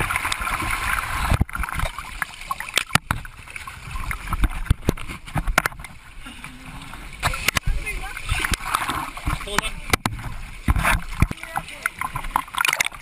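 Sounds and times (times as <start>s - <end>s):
seawater sloshing and splashing: 0.0s - 13.0s.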